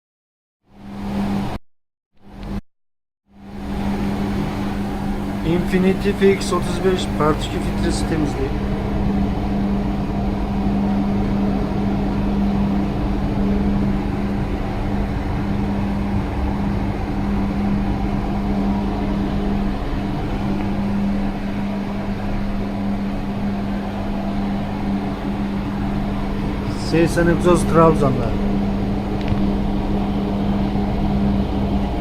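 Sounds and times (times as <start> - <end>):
machine humming: 3.4 - 32.0.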